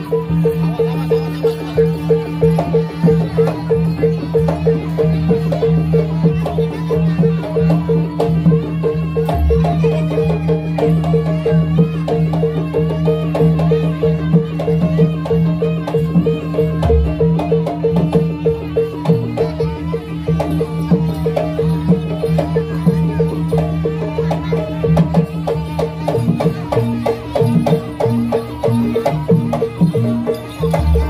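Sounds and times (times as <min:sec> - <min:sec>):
wavering melody: 0:00.0 - 0:31.0
fast repeated percussive note: 0:02.0 - 0:31.0.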